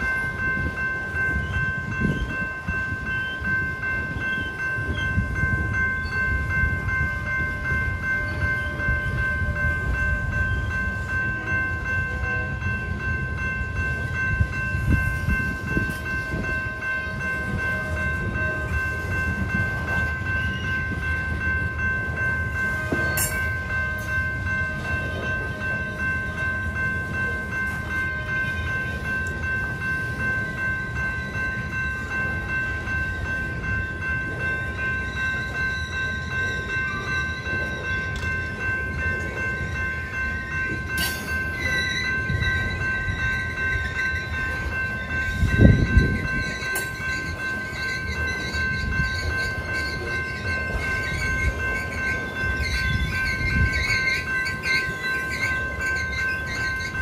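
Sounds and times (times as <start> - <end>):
electronic crossing bell ringing: 0.0 - 57.0
train cars rolling on rails: 0.0 - 57.0.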